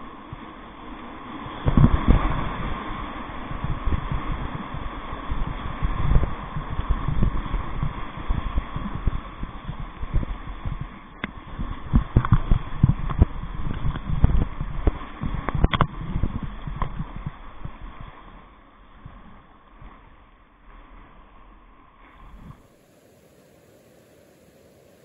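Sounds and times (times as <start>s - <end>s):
faint steady hiss: 0.0s - 25.0s
whitewater slapping kayak: 0.0s - 25.0s.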